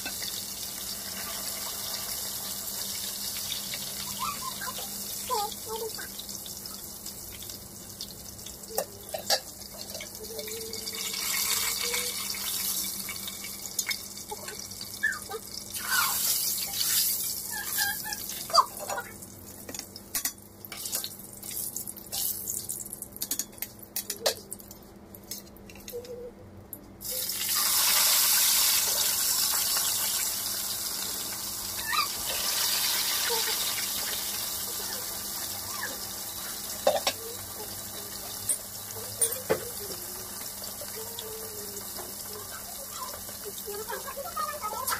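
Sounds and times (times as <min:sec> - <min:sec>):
oil sizzling in a wok: 0:00.0 - 0:24.1, 0:27.0 - 0:44.9.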